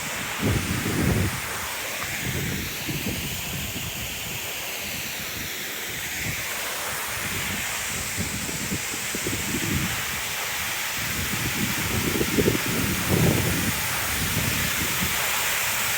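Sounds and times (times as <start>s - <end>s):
wind buffeting microphone: 0.0s - 5.5s, 7.0s - 15.2s
waterfall rushing: 0.0s - 15.9s.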